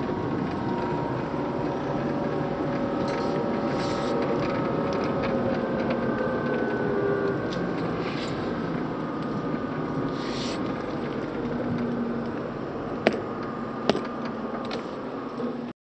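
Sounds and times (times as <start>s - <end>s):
mechanical hum with held tones: 0.0s - 15.7s.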